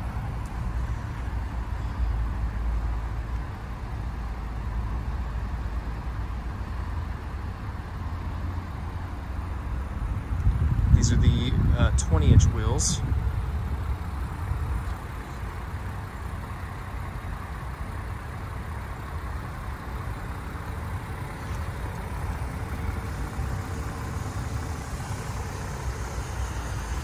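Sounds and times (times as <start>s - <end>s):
engine idling low rumble: 0.0s - 27.0s.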